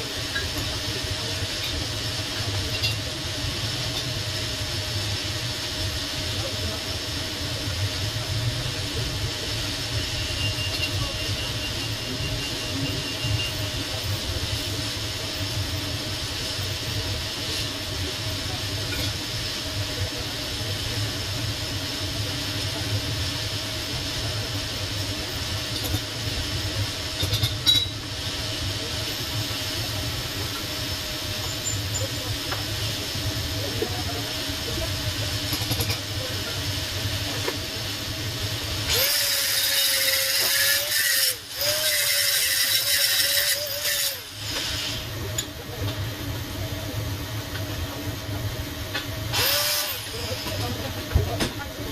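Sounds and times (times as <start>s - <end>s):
welding arc hiss: 0.0s - 51.9s.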